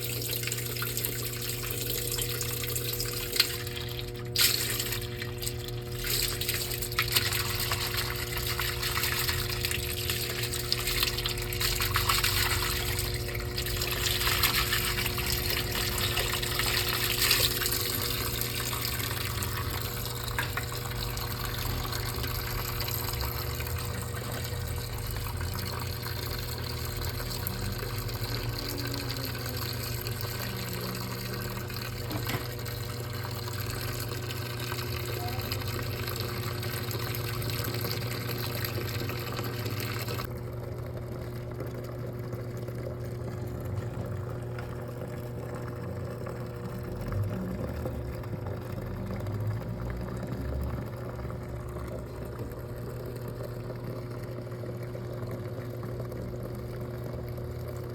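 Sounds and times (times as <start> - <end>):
washing machine water splashing: 0.0 - 57.9.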